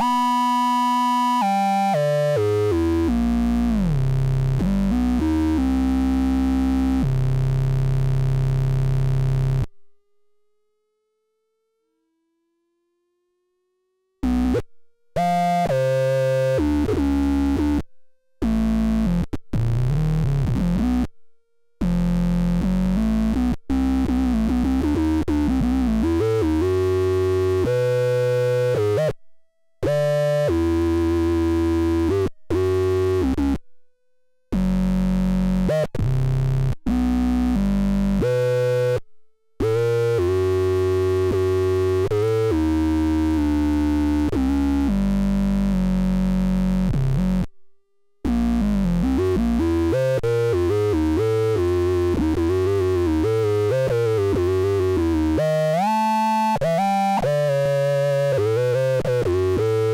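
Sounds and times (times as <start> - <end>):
synthesizer playing square-wave notes: 0.0 - 9.7, 14.2 - 17.8, 18.4 - 21.1, 21.8 - 29.1, 29.8 - 33.6, 34.6 - 39.0, 39.6 - 47.5, 48.2 - 59.9.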